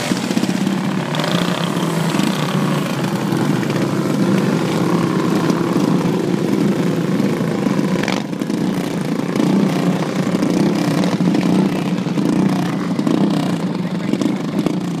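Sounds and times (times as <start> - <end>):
small engines droning: 0.0 - 15.0.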